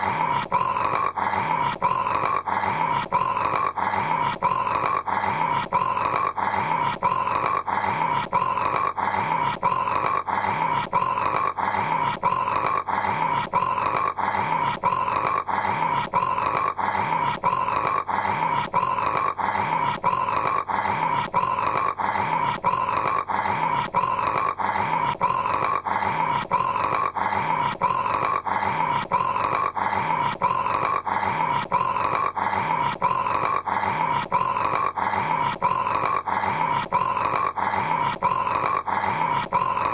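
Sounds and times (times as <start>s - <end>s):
man snoring: 0.0s - 39.9s.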